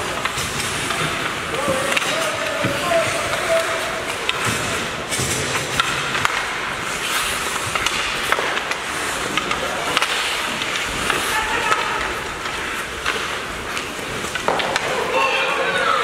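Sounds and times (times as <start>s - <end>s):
hockey sticks and puck clacking: 0.0s - 16.0s
skates scraping on ice: 0.0s - 16.0s.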